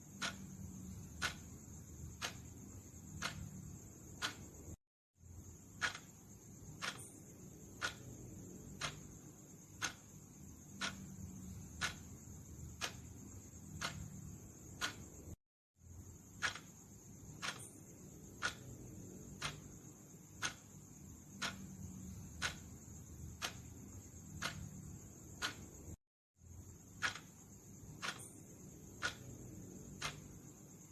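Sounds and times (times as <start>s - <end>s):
clock ticking: 0.0s - 4.8s, 5.6s - 15.4s, 16.2s - 26.0s, 26.8s - 30.9s.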